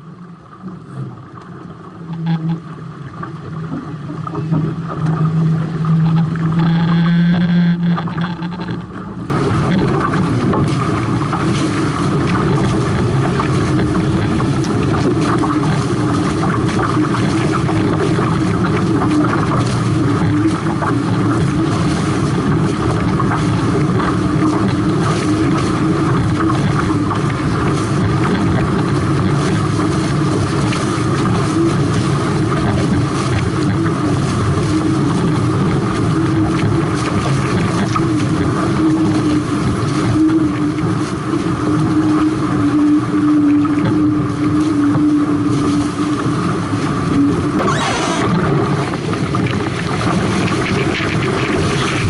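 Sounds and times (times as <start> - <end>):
steady hum: 0.0 - 52.0
water and spray rushing: 0.0 - 52.0
wind: 0.0 - 52.0.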